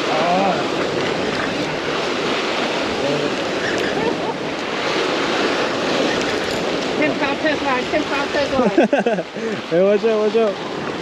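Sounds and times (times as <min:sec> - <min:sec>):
wind buffeting microphone: 0:00.0 - 0:09.6
surf washing over rocks: 0:00.0 - 0:11.0.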